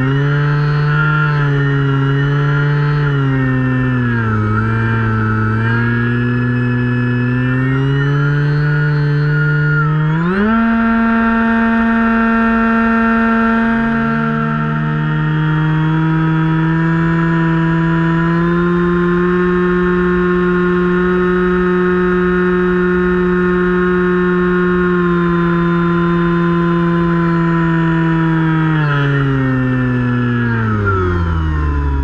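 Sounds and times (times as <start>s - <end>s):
electric motor and propeller whining: 0.0s - 32.0s.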